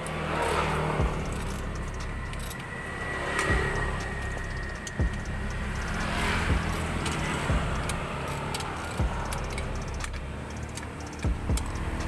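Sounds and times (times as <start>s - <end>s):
light clicks: 0.0s - 12.0s
scooter engine idling: 0.0s - 12.0s.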